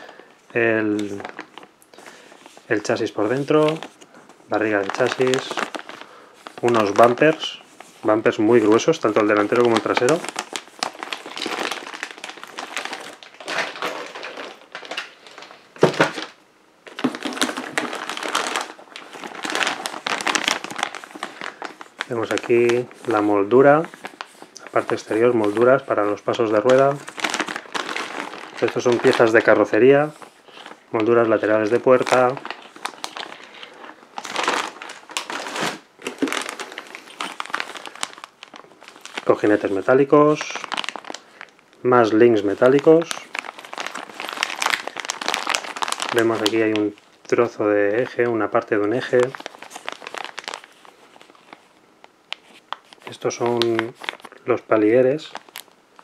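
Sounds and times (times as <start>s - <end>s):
plastic bags crinkling: 0.0s - 56.0s.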